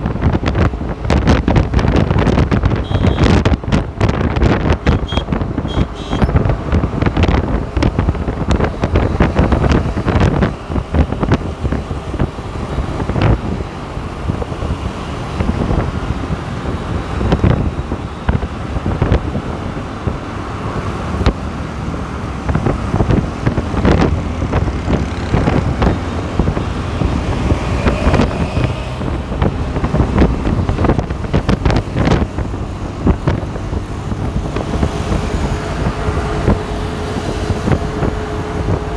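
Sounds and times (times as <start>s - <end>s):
passing cars: 0.0s - 38.9s
road noise: 0.0s - 38.9s
wind buffeting microphone: 0.0s - 38.9s.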